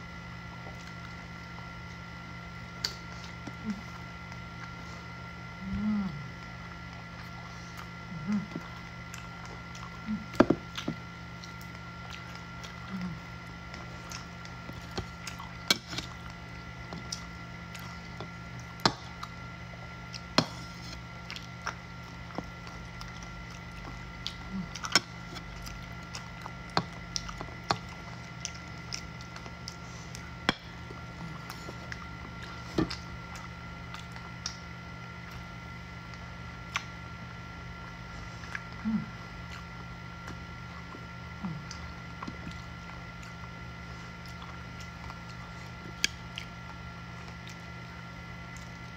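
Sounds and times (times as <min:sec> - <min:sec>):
chewing roast pork: 0:00.0 - 0:48.9
steady background hum: 0:00.0 - 0:48.9.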